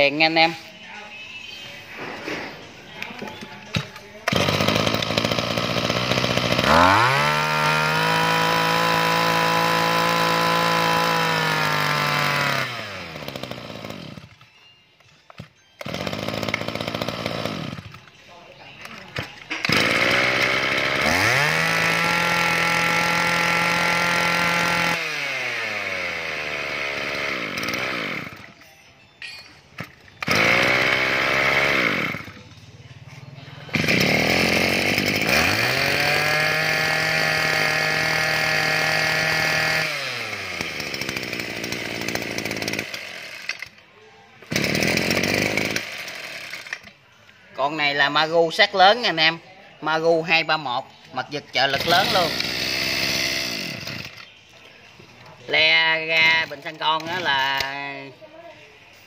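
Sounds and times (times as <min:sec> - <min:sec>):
brush cutter engine revving: 0:02.6 - 0:14.4, 0:15.4 - 0:28.6, 0:29.8 - 0:43.8, 0:44.4 - 0:46.9, 0:51.2 - 0:54.6, 0:55.3 - 0:58.1.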